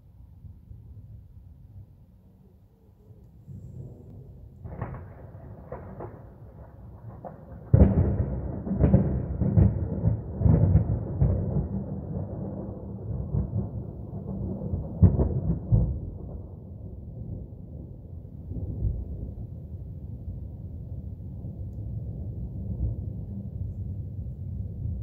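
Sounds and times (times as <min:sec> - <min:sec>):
thunder rumbling and cracking: 0:03.5 - 0:25.0.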